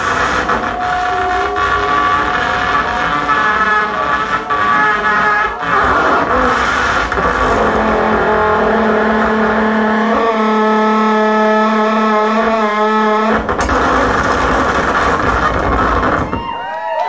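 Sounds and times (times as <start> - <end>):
steady buzzing tone: 0.0 - 16.4
loud distorted noise: 0.0 - 16.6.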